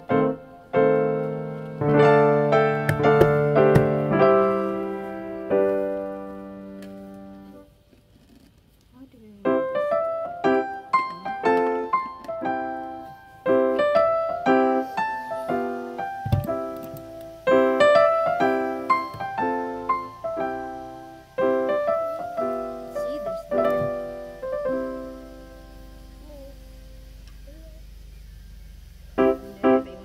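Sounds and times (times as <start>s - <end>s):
gentle piano music: 0.0s - 7.8s, 9.3s - 27.2s, 27.8s - 30.0s.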